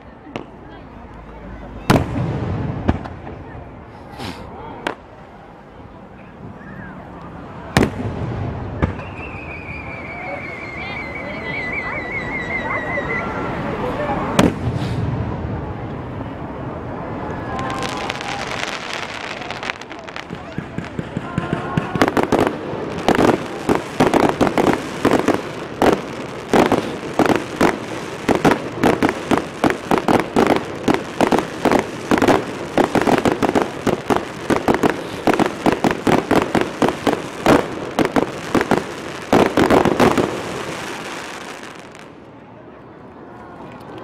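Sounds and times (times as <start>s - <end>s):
fireworks bangs and crackles: 0.0s - 5.2s, 7.4s - 11.0s, 12.8s - 42.4s.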